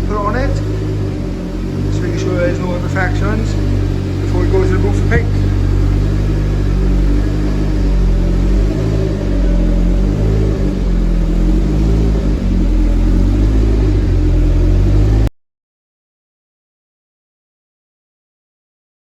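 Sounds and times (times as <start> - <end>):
car engine running: 0.0 - 15.3.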